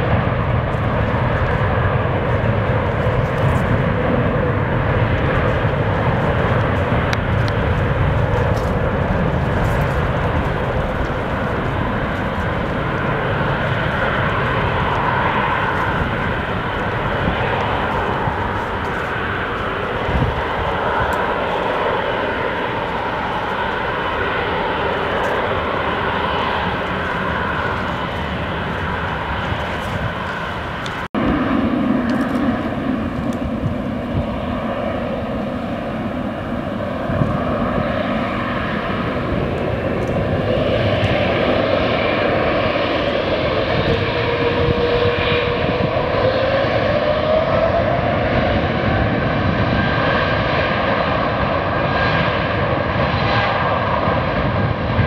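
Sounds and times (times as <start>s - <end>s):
jet airliner runway roll: 0.0s - 55.0s
jet engines rumbling: 0.0s - 55.0s
rising jet whine: 0.0s - 55.0s.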